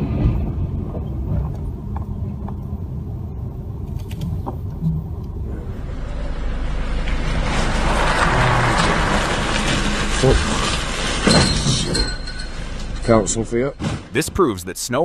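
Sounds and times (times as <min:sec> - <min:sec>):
car road rumble: 0:00.0 - 0:14.2.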